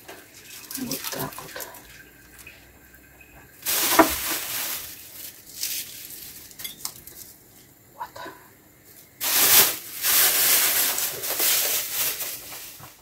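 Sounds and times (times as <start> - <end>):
kitchen rustling: 0.0 - 7.8, 8.8 - 13.0.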